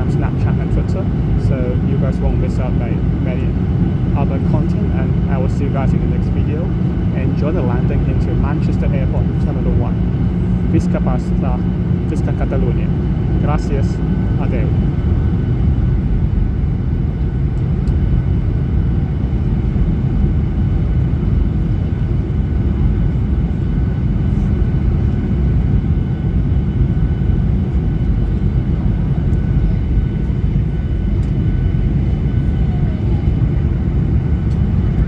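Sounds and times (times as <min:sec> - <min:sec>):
airplane cabin engine rumble: 0:00.0 - 0:35.0
faint steady whine: 0:00.0 - 0:35.0.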